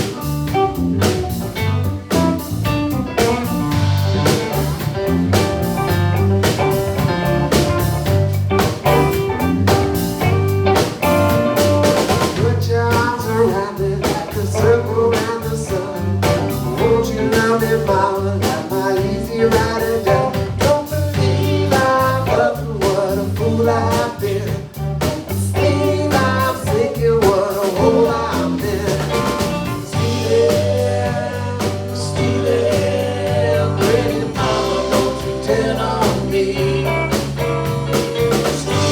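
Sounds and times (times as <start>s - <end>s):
live blues band playing: 0.0s - 38.9s.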